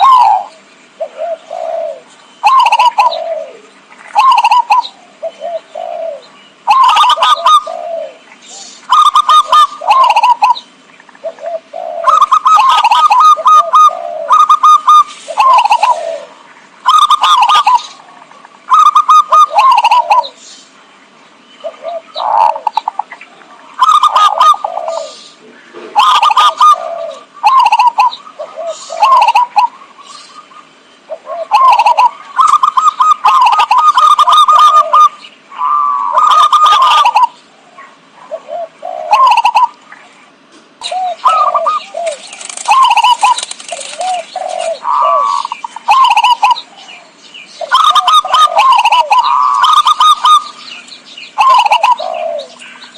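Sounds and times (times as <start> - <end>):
doves cooing: 0.0 - 20.5, 21.6 - 52.9.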